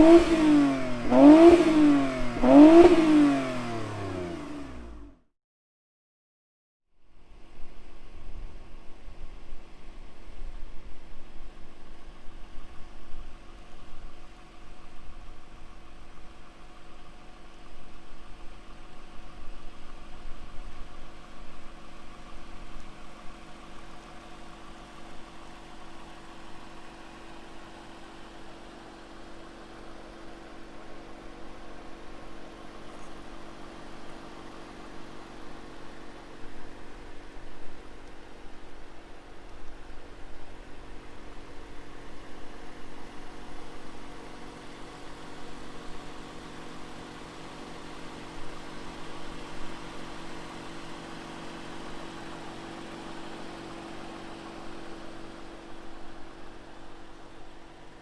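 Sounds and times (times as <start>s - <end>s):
car engine idling: 0.0s - 5.2s, 12.3s - 58.0s.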